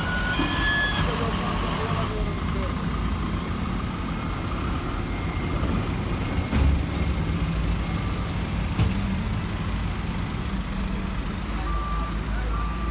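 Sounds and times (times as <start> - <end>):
truck diesel engine rumble: 0.0 - 12.9
van driving off: 0.0 - 12.9.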